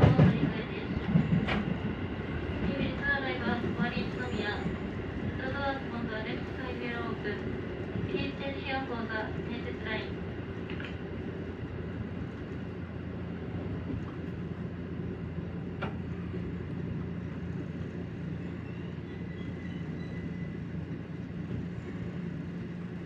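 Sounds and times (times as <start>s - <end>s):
train wheels rumbling on rail: 0.0s - 23.0s
train motor hum: 2.2s - 23.0s.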